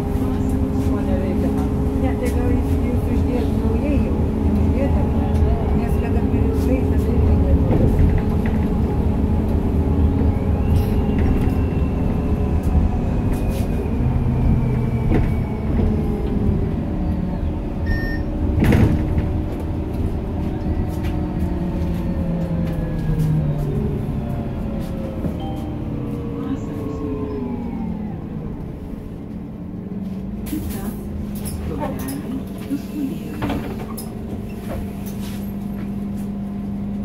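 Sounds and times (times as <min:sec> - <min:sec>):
bus engine rumbling: 0:00.0 - 0:37.0.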